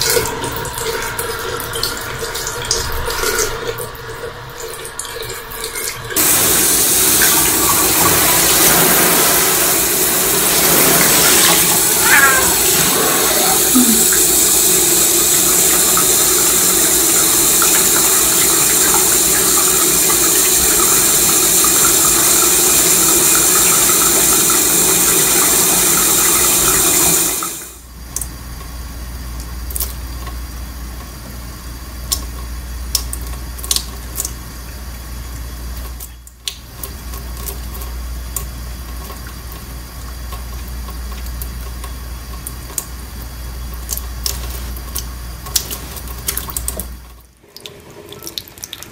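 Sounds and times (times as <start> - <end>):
tap water running into sink: 0.0 - 28.3, 32.0 - 48.9.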